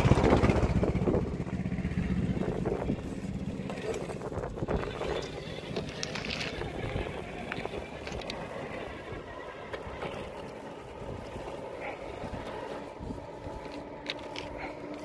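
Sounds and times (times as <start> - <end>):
electric motor whine: 0.0 - 15.0
tyres scraping on stones: 2.6 - 15.0.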